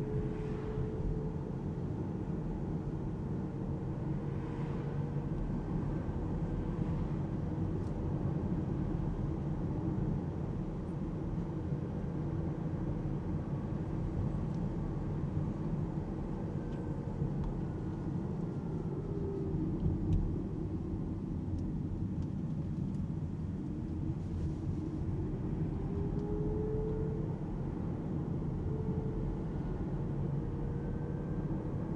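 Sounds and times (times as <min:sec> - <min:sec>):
road and tyre rumble: 0:00.0 - 0:31.9.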